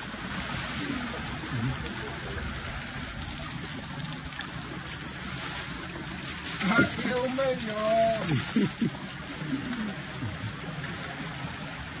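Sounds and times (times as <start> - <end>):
water gushing from outlet channel: 0.0 - 12.0.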